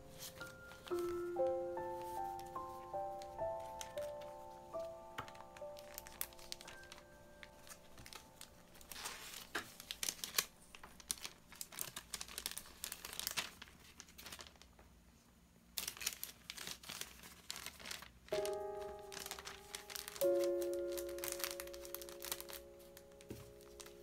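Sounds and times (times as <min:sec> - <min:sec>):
plastic bag crinkling: 0:00.0 - 0:14.8, 0:15.8 - 0:24.0.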